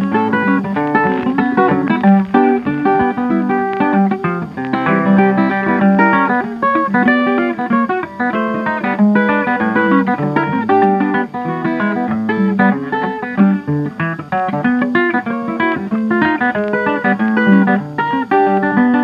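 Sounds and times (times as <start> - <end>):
instrumental rag music: 0.0 - 19.0.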